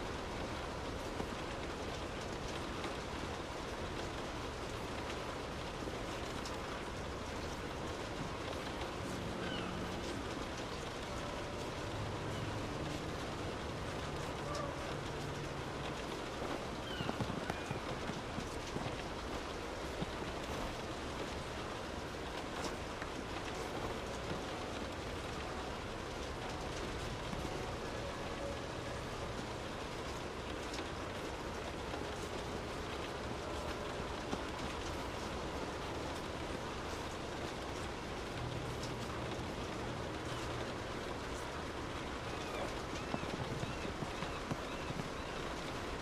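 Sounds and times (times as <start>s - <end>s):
low steady hum: 0.0s - 46.0s
steady rain falling: 0.0s - 46.0s.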